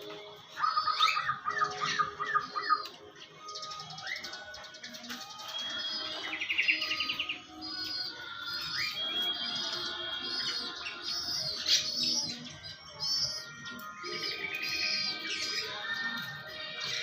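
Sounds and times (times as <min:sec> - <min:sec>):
high-pitched bird chirps: 0:00.4 - 0:17.0.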